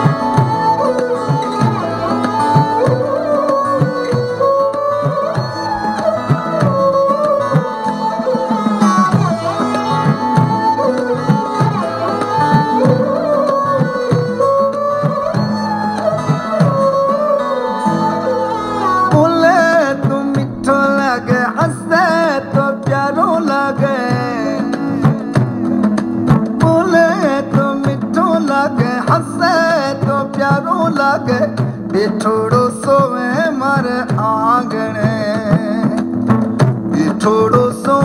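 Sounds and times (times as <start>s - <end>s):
gliding instrumental melody: 0.0s - 38.0s
hand drums: 0.0s - 38.0s.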